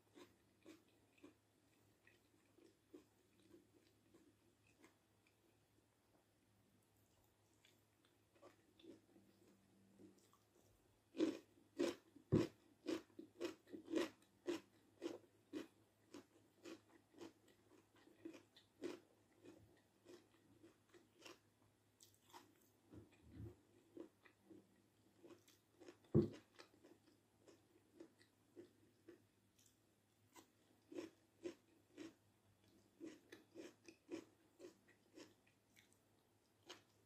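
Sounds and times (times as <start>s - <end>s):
person chewing food: 0.0s - 5.7s, 7.0s - 37.0s.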